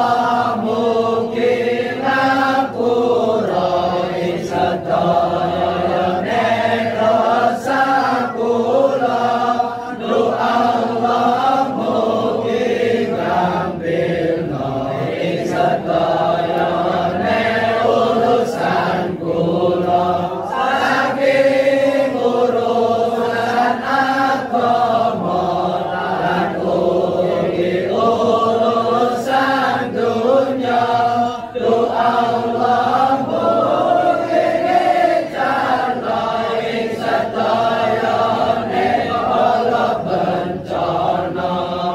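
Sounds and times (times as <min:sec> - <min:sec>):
group of voices chanting: 0:00.0 - 0:41.9.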